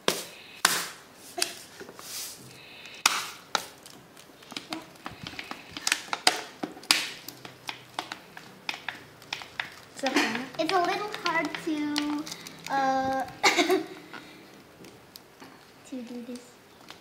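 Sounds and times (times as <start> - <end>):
plastic bottle crinkling: 0.1 - 17.0.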